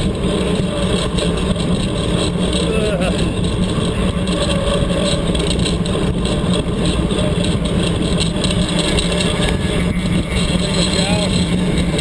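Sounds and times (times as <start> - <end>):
bike tyres rolling on dirt: 0.0 - 12.0
wind on microphone: 0.0 - 12.0.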